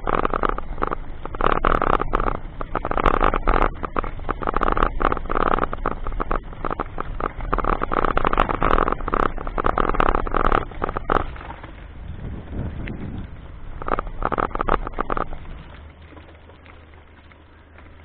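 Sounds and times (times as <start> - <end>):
sharp rattles and knocks: 0.0 - 11.8, 12.8 - 16.2
vehicle road rumble: 0.0 - 18.0.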